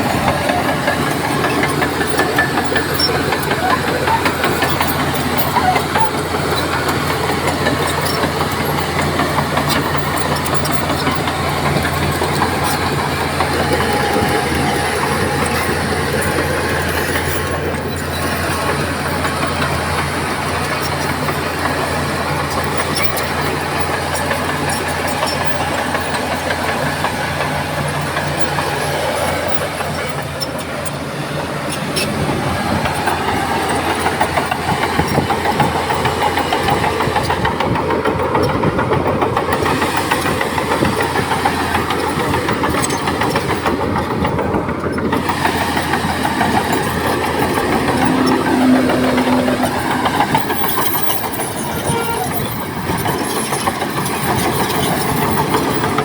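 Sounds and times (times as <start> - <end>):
bulldozer diesel engine running: 0.0 - 56.0
steel tracks clanking: 0.0 - 56.0.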